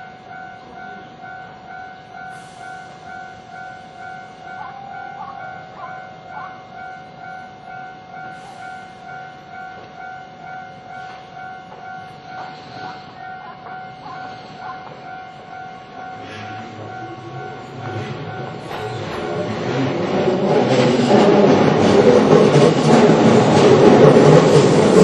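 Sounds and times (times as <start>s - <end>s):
electric train rumble: 0.0s - 25.0s
level-crossing bell clanging: 0.0s - 25.0s.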